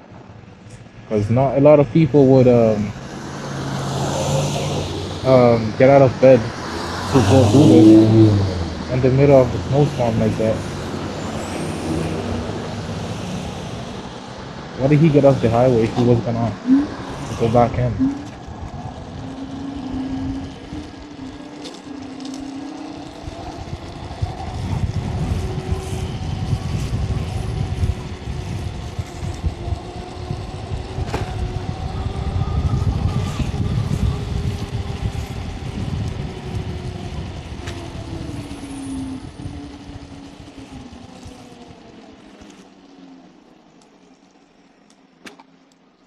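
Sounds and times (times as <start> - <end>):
electric scooter motor whining: 0.0 - 46.0
wind rumble on microphone: 1.2 - 42.3.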